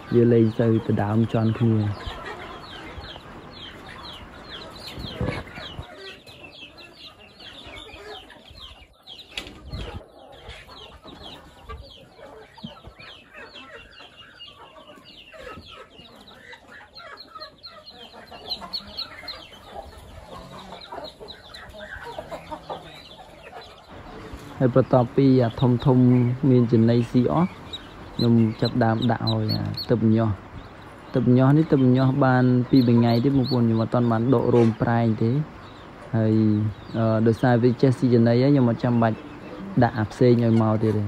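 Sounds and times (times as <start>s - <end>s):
chickens cheeping and clucking: 0.0s - 41.0s.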